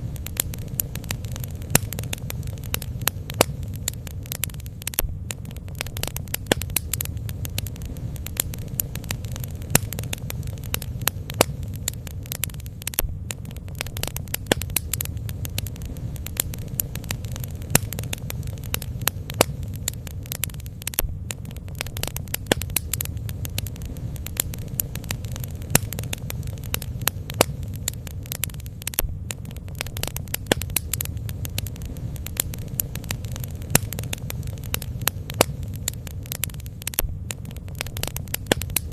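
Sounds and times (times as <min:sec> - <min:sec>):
bonfire crackling: 0:00.0 - 0:38.9.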